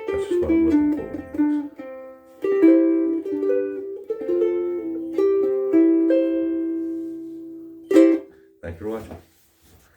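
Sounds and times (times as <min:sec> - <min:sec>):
ukulele chords: 0:00.0 - 0:08.6.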